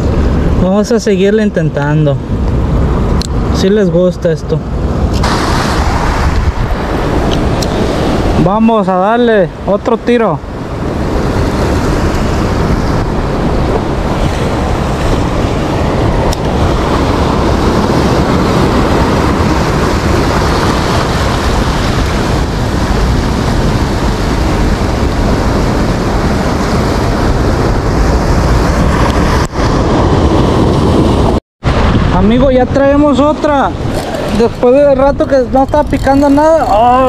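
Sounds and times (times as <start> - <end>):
wind buffeting microphone: 0.0 - 37.0
ocean surf breaking: 4.5 - 37.0.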